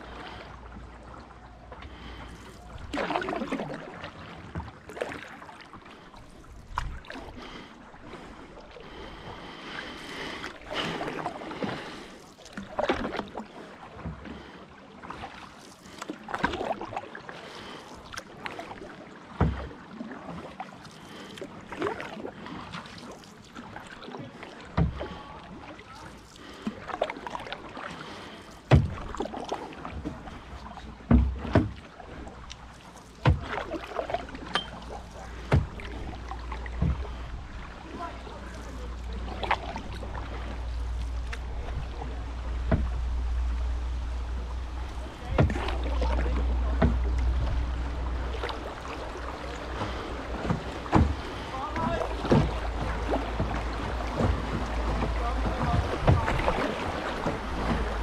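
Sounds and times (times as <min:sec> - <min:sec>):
paddles splashing in water: 0:00.0 - 0:58.0.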